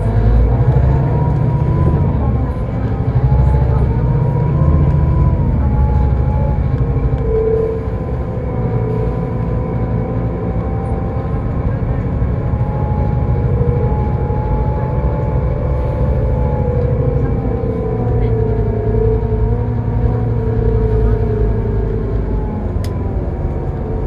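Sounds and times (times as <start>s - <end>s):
bus diesel engine rumble: 0.0s - 24.0s
drivetrain whine: 0.0s - 24.0s.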